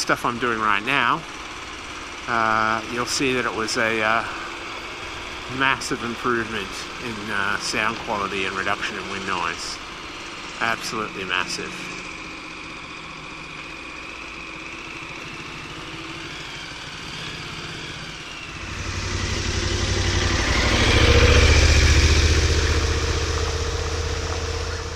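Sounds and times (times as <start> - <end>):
motorcycle engine: 0.0 - 24.9.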